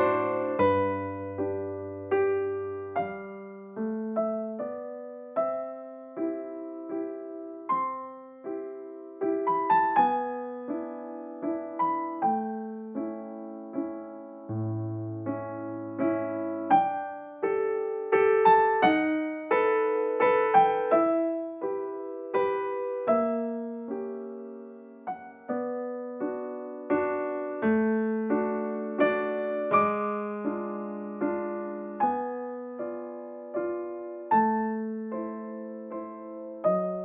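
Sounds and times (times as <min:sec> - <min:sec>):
soft solo piano melody: 0:00.0 - 0:37.0.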